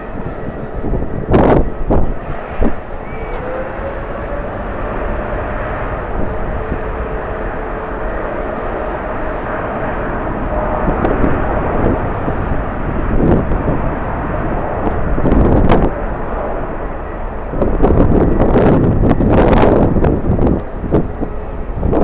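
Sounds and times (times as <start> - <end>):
jet engines whining: 0.0 - 22.0
wind buffeting microphone: 0.0 - 22.0.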